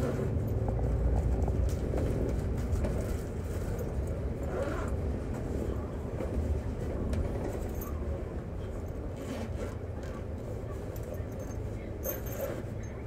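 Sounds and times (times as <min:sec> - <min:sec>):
bodywork rattles and ticks: 0:00.0 - 0:13.0
bus engine and road rumble: 0:00.0 - 0:13.0.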